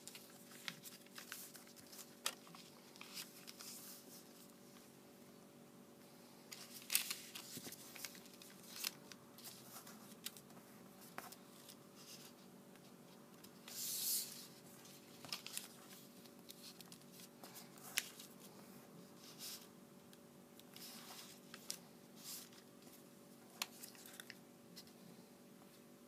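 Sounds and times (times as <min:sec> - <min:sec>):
paper rustling and creasing: 0:00.0 - 0:04.5, 0:06.5 - 0:19.7, 0:20.6 - 0:25.0
faint steady hum: 0:00.0 - 0:26.0.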